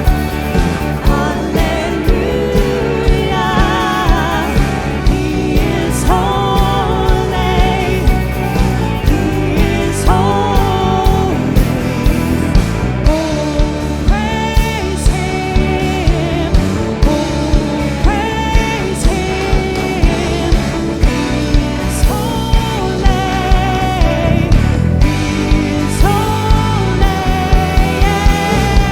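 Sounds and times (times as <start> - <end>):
steady drum beat: 0.0 - 28.9
worship band playing: 0.0 - 28.9
person singing long notes: 0.6 - 12.4, 13.0 - 28.9.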